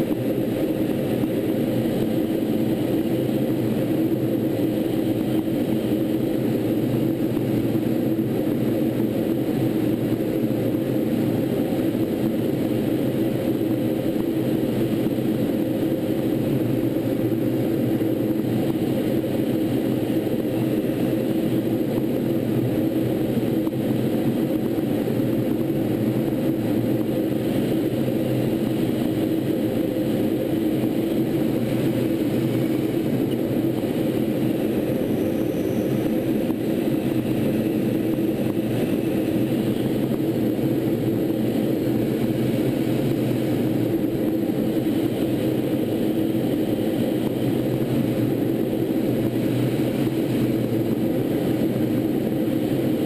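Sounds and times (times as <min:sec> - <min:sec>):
jet engine in-flight drone: 0:00.0 - 0:53.0.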